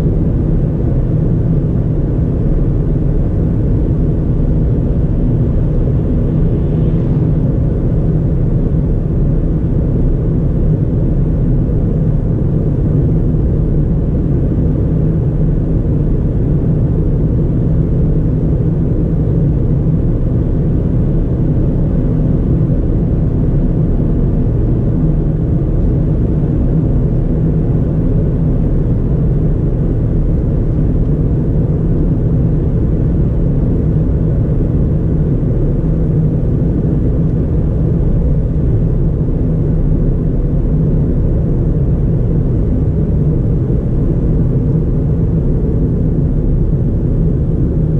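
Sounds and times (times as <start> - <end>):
car engine and tyre rumble: 0.0 - 47.9.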